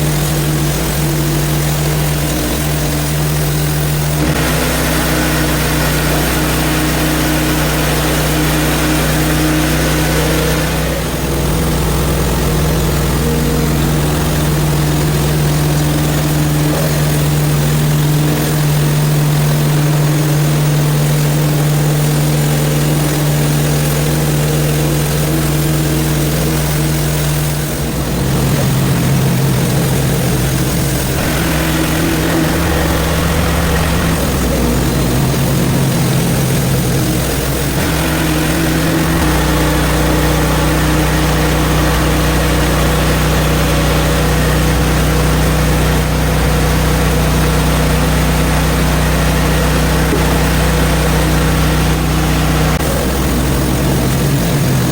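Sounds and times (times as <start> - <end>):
bandsaw sawing log: 0.0 - 54.9
sawmill gas engine running: 0.0 - 54.9.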